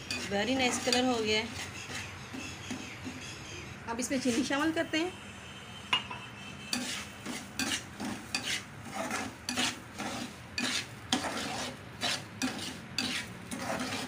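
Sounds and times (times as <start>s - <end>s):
metal spoon scraping a metal pan: 0.0s - 3.2s, 4.0s - 4.8s, 6.0s - 14.0s.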